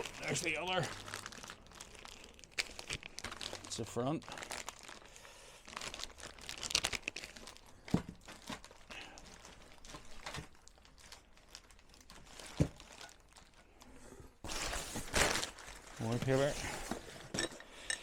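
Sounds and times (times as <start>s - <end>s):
packing paper crumpling: 0.0s - 16.9s.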